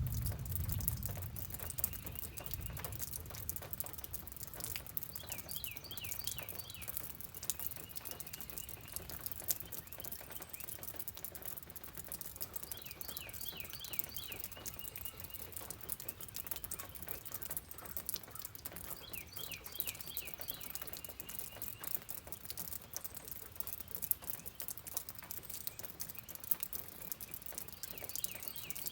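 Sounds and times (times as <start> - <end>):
rain pattering: 0.0 - 28.9
songbird singing: 0.0 - 28.9.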